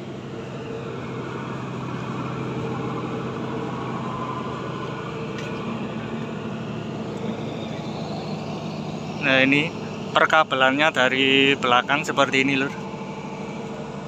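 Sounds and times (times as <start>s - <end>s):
diesel generator humming: 0.0s - 14.0s.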